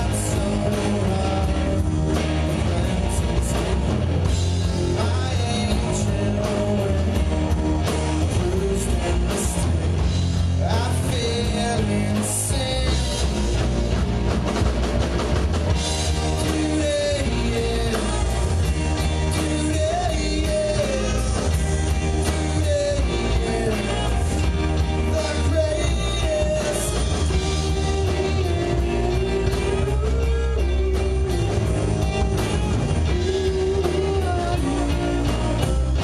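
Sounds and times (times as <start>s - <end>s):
rock band playing: 0.0s - 36.0s.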